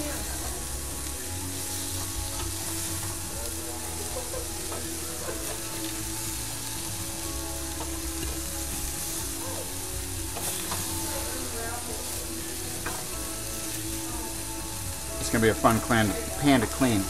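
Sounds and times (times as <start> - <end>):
chicken sizzling in oil: 0.0 - 17.0
wooden spatula scraping skillet: 0.0 - 17.0.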